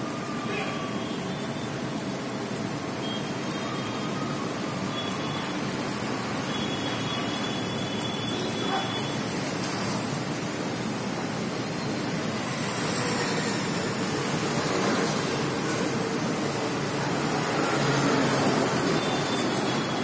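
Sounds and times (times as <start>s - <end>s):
road traffic hiss and rumble: 0.0s - 20.0s.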